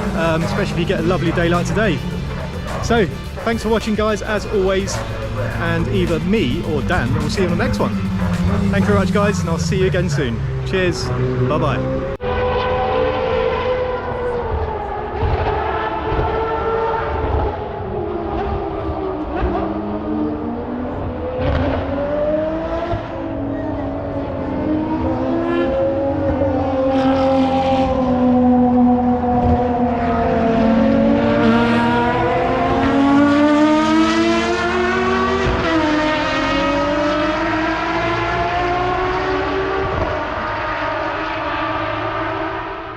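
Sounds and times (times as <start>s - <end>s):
racing car engines revving: 0.0s - 42.9s.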